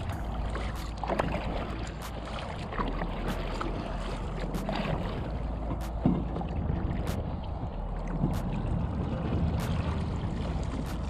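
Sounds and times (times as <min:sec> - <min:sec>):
paddle splashing into water: 0:00.0 - 0:11.0
water lapping at plastic hull: 0:00.0 - 0:11.0
wind rumbling on microphone: 0:00.0 - 0:11.0.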